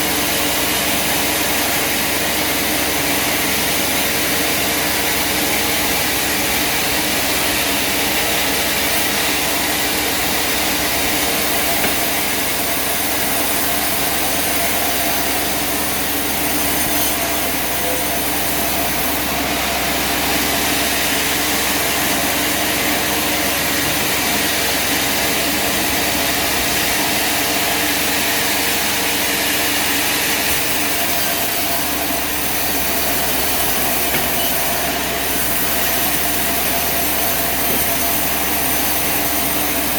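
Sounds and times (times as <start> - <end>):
machinery humming and hissing: 0.0 - 39.9.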